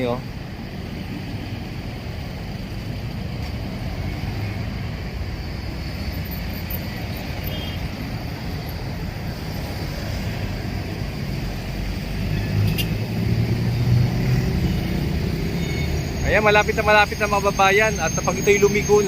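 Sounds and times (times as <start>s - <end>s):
road rumble: 0.0s - 19.0s
vehicle engines: 0.0s - 19.0s.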